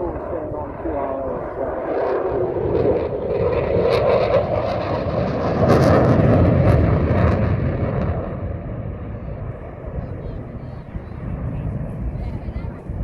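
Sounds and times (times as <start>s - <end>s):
fighter jet engine noise: 0.0s - 13.0s.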